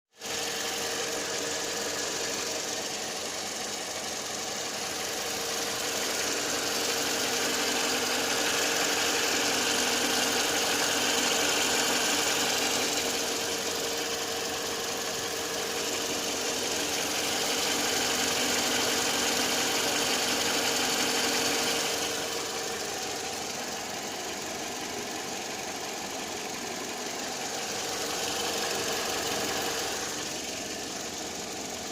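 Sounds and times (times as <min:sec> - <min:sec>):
car engine idling: 0:00.2 - 0:31.9
engine knocking: 0:00.2 - 0:31.9.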